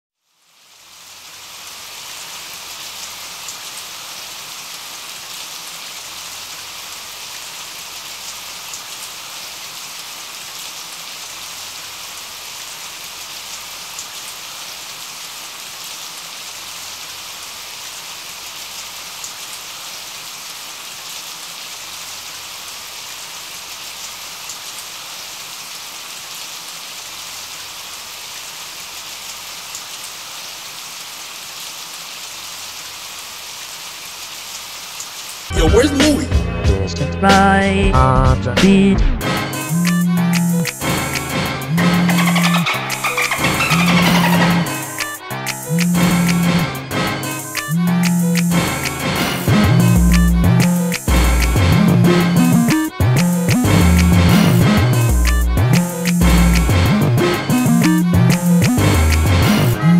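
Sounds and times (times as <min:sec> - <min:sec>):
steady rain falling: 0:00.2 - 0:36.2, 0:39.2 - 0:59.9.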